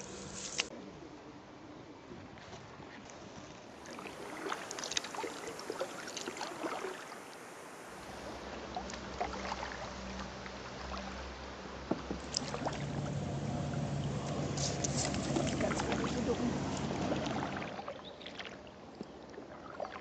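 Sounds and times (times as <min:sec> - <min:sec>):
paddle splashing in water: 0:03.7 - 0:20.0.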